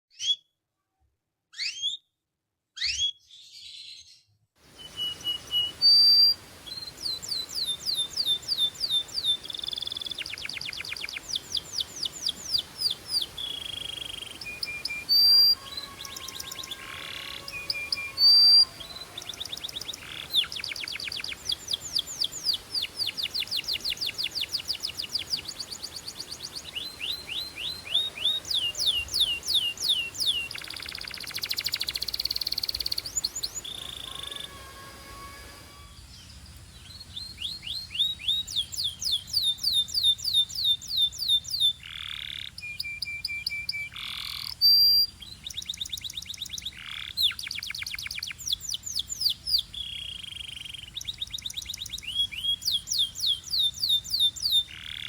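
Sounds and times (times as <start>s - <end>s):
canary singing trills: 4.7s - 55.0s.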